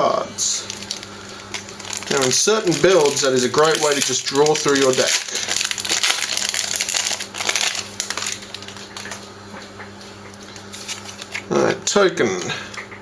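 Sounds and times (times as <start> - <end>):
faint electrical hum: 0.0 - 13.0
foil wrapper crinkling: 0.1 - 12.0.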